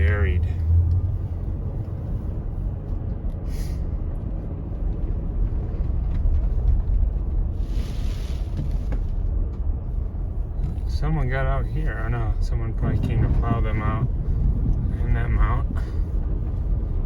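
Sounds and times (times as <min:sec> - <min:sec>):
car driving through deep snow: 0:00.0 - 0:17.0.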